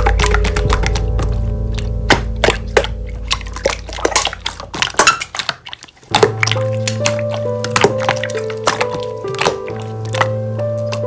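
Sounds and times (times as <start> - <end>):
background music with bass note: 0.0 - 5.2, 6.1 - 11.0
slime clicks and squishes: 0.0 - 11.0.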